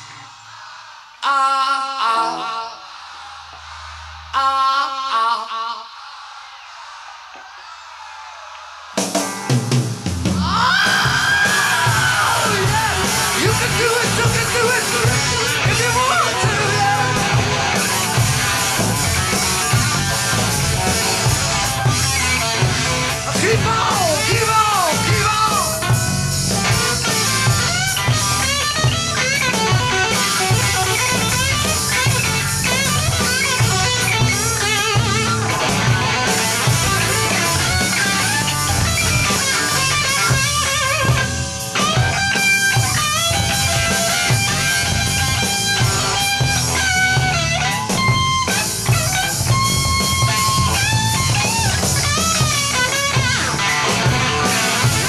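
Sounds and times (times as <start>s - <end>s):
drums: 0.0s - 55.0s
bass guitar: 9.4s - 55.0s
electric guitar solo: 10.6s - 55.0s.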